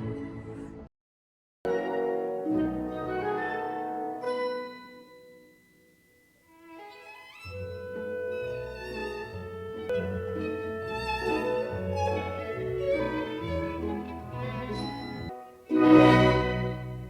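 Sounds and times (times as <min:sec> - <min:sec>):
orchestral string music: 0:00.0 - 0:00.9, 0:01.7 - 0:04.8, 0:06.5 - 0:17.0.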